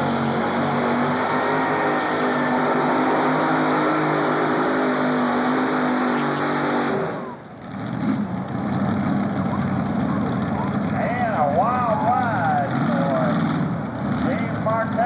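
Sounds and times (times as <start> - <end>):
rough engine sound: 0.0 - 15.0
tractor engines running: 0.0 - 15.0.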